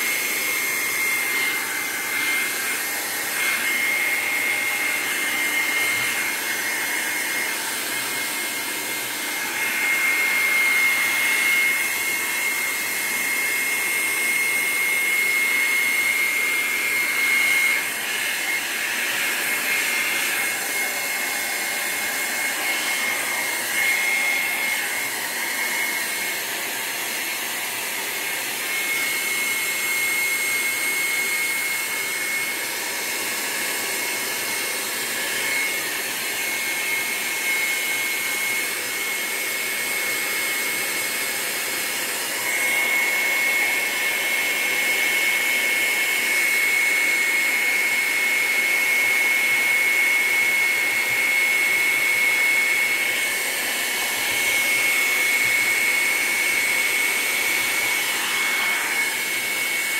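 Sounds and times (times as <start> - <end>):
hair dryer blowing with whine: 0.0 - 59.9.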